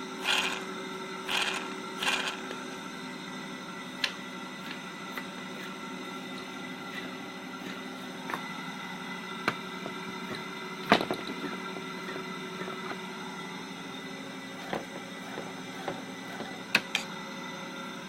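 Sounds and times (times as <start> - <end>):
electric motor rough hum: 0.0 - 18.0.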